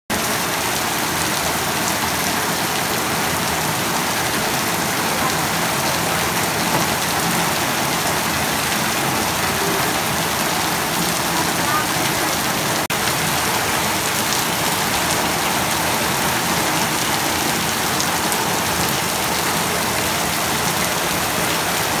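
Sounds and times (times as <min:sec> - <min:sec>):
heavy rain on puddles and leaves: 0:00.1 - 0:22.0.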